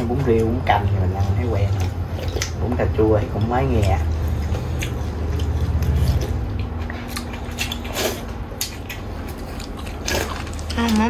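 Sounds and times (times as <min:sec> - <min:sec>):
chewing: 0:00.0 - 0:11.0.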